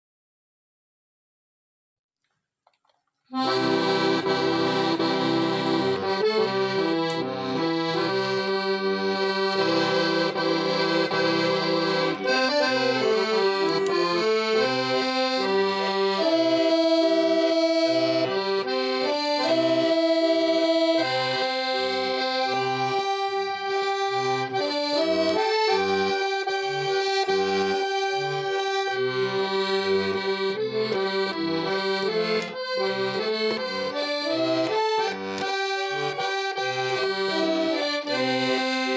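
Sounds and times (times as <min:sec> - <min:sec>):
accordion music: 0:03.3 - 0:38.9.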